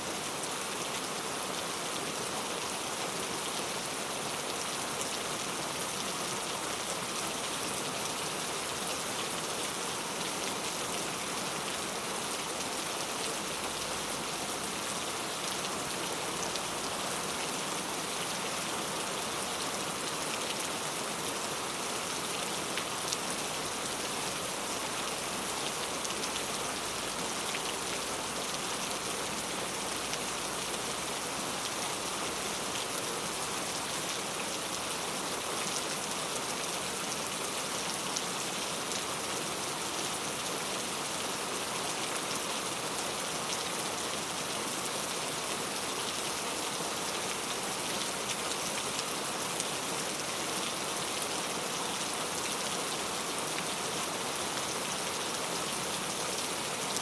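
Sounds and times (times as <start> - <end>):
heavy rain on hard street: 0.0 - 57.0.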